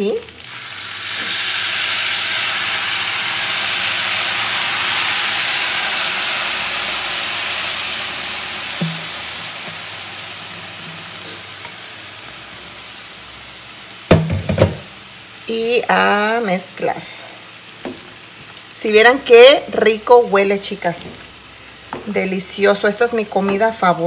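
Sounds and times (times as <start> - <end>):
salsa sizzling in a hot pan: 0.0 - 24.0.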